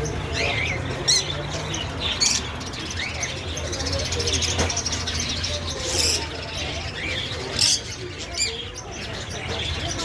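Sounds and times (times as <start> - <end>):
parrots chirping and chattering: 0.0 - 10.0.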